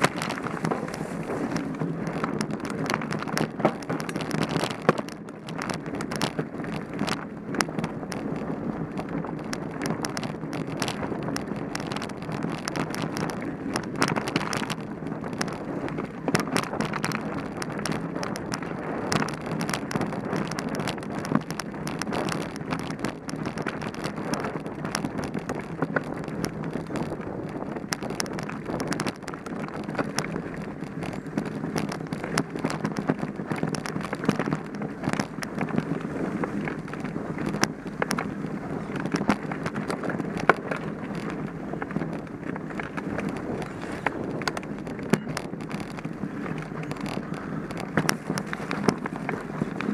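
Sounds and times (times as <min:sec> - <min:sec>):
bike chain and frame rattling: 0:00.0 - 0:49.9
bike tyres on dirt: 0:00.0 - 0:49.9
wind buffeting microphone: 0:00.0 - 0:49.9.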